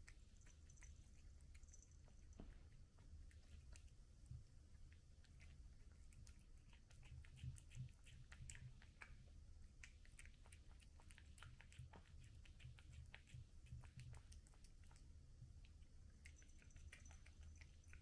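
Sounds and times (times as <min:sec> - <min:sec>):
cat chewing food: 0:00.0 - 0:18.0
steady low hum: 0:00.0 - 0:18.0.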